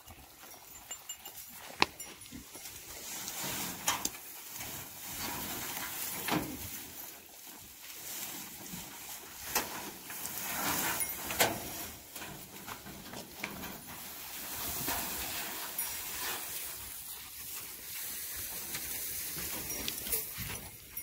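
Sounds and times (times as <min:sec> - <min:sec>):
dry hay rustling: 0:00.0 - 0:21.0
hay crackling: 0:01.2 - 0:21.0.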